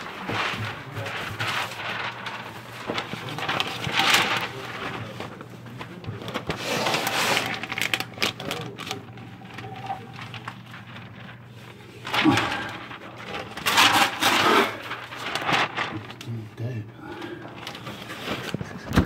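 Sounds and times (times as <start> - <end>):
rustling and rubbing noise: 0.0 - 16.7, 17.5 - 19.0
steady low hum: 0.0 - 19.0.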